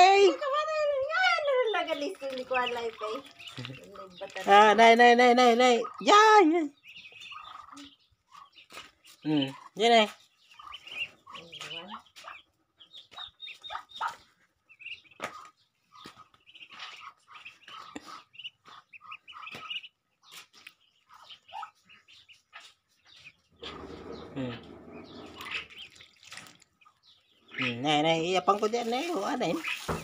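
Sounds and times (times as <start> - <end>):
ducklings peeping: 0.0 - 30.0.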